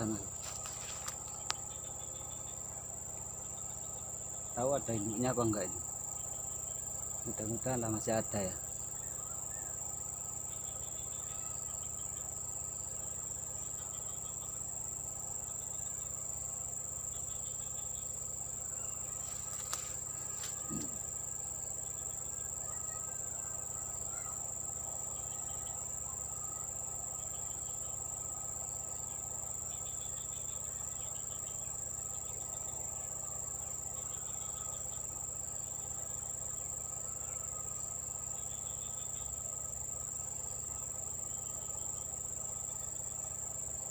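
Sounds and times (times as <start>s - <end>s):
insect chirps: 0.0s - 43.9s
insects droning: 0.0s - 43.9s.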